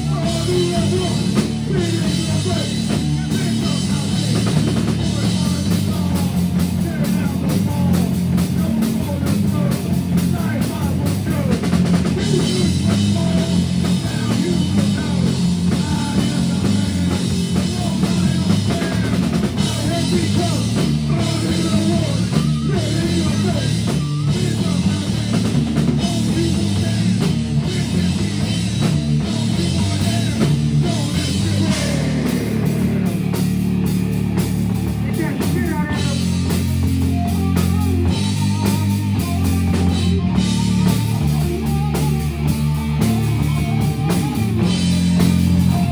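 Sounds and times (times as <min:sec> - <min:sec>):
bass guitar: 0:00.0 - 0:45.9
distorted electric guitars: 0:00.0 - 0:45.9
drum kit: 0:00.0 - 0:45.9.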